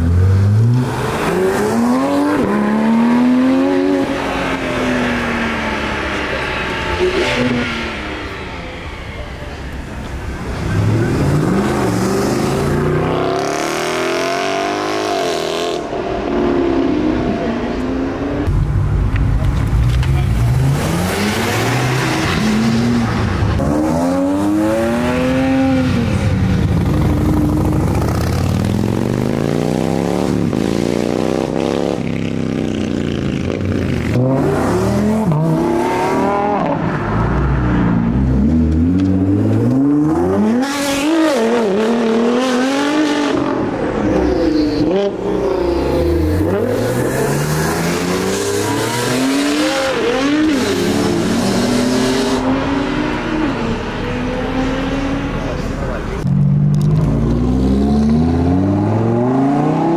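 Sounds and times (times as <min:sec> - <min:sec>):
sports cars accelerating hard: 0:00.0 - 0:18.6, 0:19.9 - 0:59.9.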